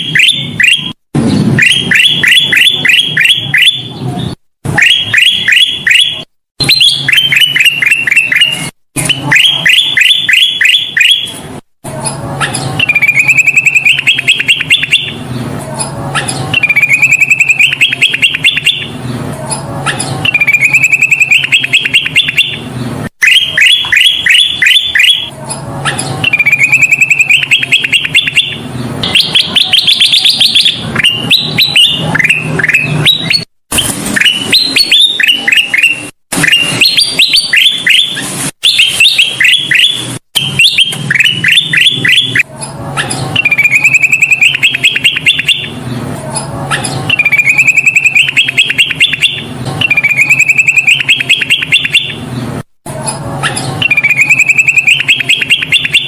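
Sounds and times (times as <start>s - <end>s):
bird singing chirps and whistles: 0.0s - 1.0s, 1.6s - 11.4s, 12.4s - 15.2s, 16.1s - 18.9s, 19.8s - 33.5s, 34.2s - 42.4s, 43.0s - 45.8s, 46.7s - 52.2s, 53.4s - 56.0s.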